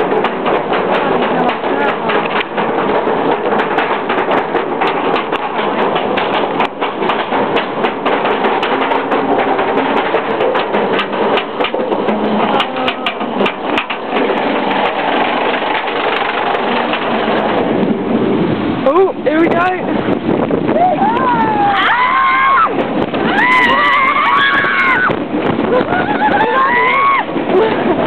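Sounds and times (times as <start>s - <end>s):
roller coaster lift chain rattling: 0.0s - 28.0s.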